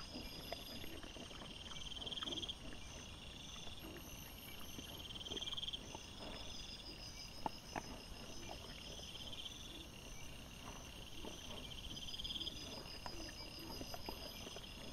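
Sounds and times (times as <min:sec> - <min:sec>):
crickets chirping: 0:00.0 - 0:14.9
faint insect pulsing: 0:00.0 - 0:14.9.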